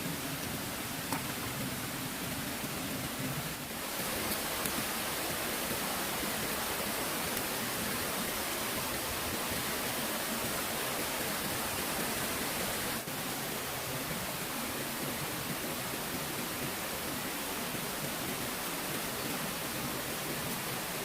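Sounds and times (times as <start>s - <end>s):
water flowing: 0.0s - 21.0s.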